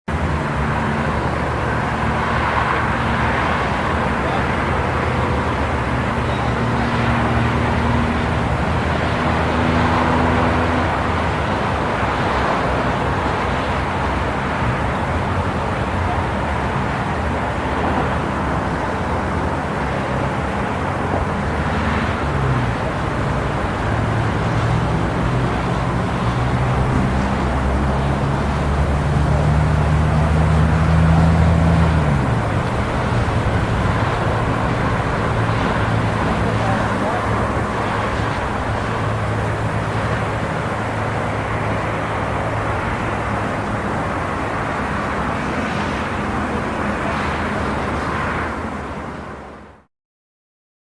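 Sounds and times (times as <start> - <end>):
car engines humming: 0.0 - 49.8
road traffic noise: 0.0 - 49.9.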